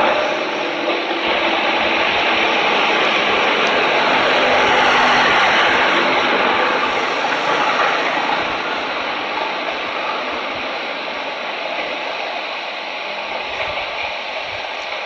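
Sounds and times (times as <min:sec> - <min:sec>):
jet engines at takeoff power: 0:00.0 - 0:15.0.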